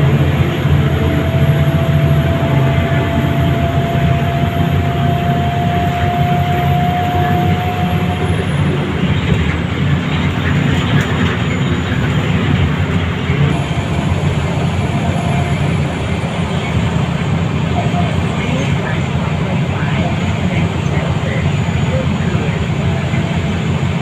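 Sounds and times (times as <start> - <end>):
thin rising whine: 0.0 - 22.5
bus diesel engine running: 0.0 - 24.0.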